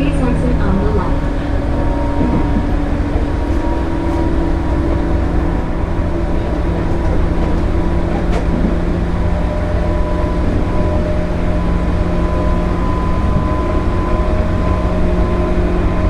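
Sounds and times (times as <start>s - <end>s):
traction motor hum: 0.0s - 16.0s
train wheels rumbling on rail: 0.0s - 16.0s.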